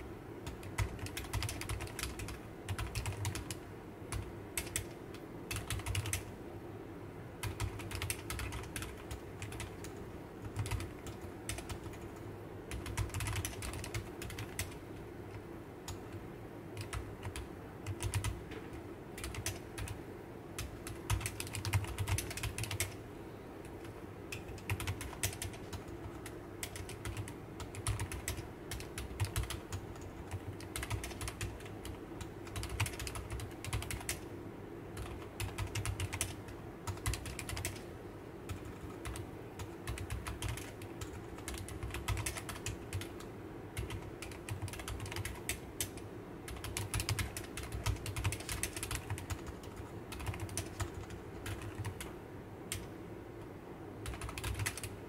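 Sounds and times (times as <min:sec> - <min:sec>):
soft keyboard typing: 0:00.0 - 0:06.3, 0:07.4 - 0:23.0, 0:23.6 - 0:34.3, 0:34.9 - 0:55.0.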